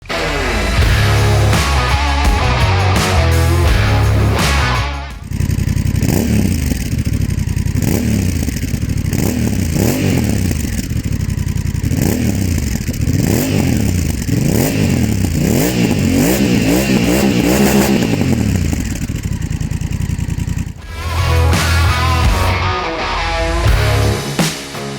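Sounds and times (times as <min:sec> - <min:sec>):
motorcycle engine revving: 0:00.1 - 0:22.7.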